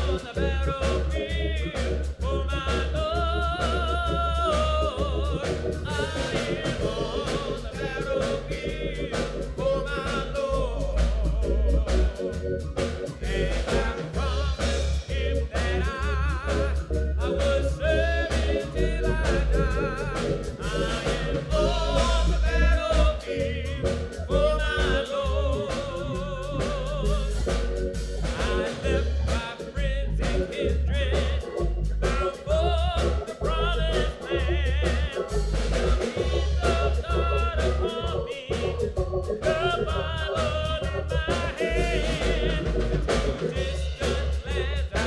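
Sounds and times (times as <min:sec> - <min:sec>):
keyboard chords: 0:00.0 - 0:45.0
man singing gospel song: 0:00.0 - 0:45.0
pulsing bass beat: 0:00.0 - 0:45.0.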